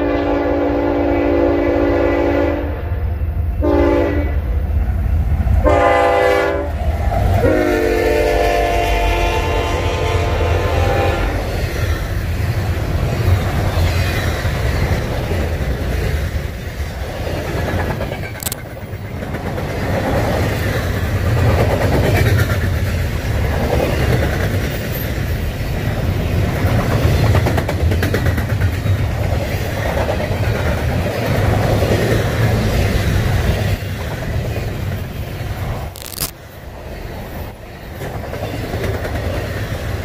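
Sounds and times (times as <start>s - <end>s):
train wheels rumbling on rails: 3.0s - 40.0s.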